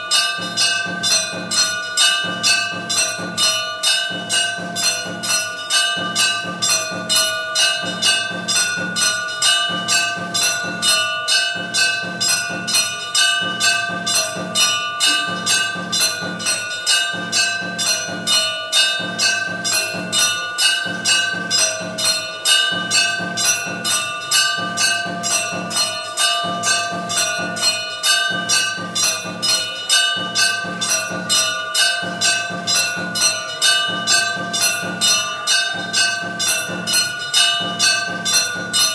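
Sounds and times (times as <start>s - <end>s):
temple bells ringing: 0.0s - 38.9s.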